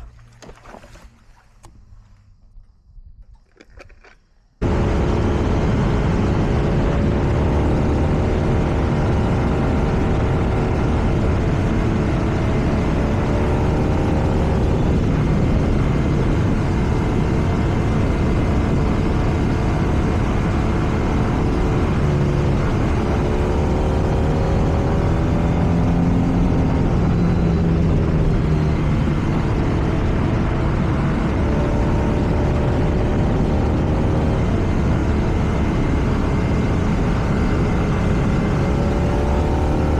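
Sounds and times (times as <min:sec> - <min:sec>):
wind and road noise: 0:00.0 - 0:39.9
motorcycle engine under way: 0:04.6 - 0:39.9.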